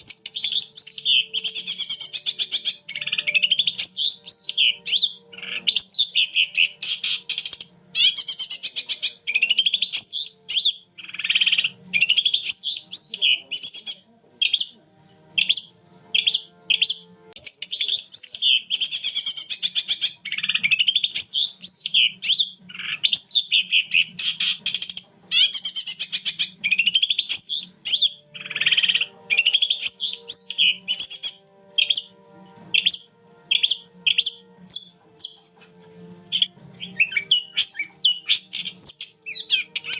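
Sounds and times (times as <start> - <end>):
bird singing chattering phrases: 0.0 - 14.8, 15.4 - 39.9.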